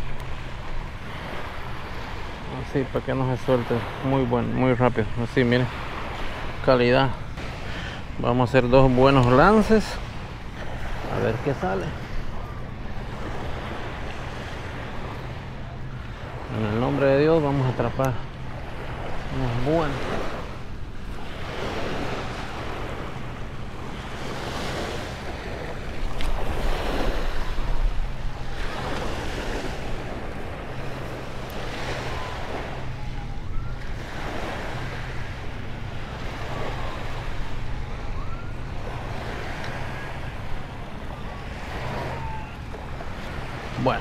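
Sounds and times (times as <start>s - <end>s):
waves washing on sandy beach: 0.0s - 44.0s
wind rumbling on microphone: 0.0s - 44.0s.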